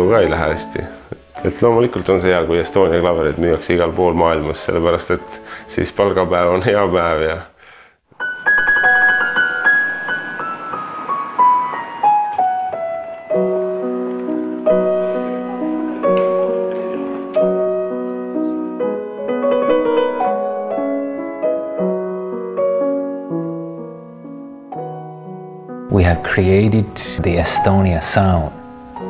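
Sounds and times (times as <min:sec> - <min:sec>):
grand piano playing slow piece: 0:00.0 - 0:06.8, 0:08.2 - 0:29.0.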